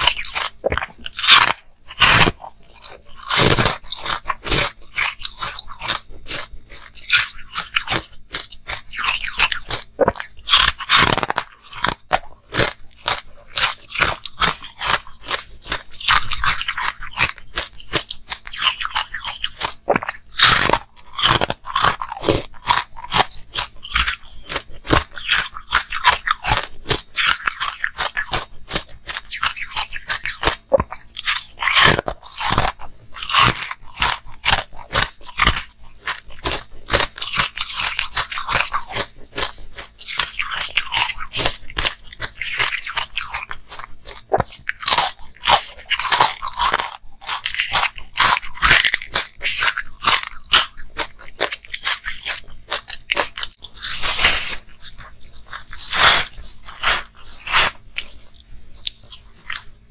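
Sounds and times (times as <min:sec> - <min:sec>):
person crunching food: 0:00.0 - 0:59.9.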